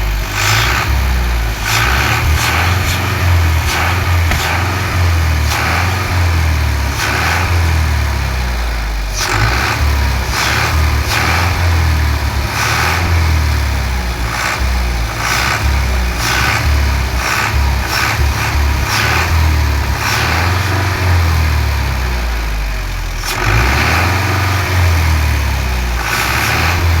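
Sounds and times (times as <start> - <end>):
harsh exhaust bursts: 0.0 - 27.0
tractor diesel engine rumbling: 0.0 - 27.0.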